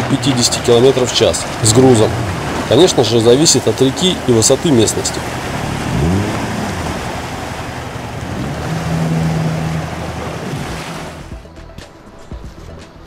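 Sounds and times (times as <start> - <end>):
boat outboard motor running: 0.0 - 11.4
rushing water: 0.0 - 11.5
wind: 0.0 - 13.0.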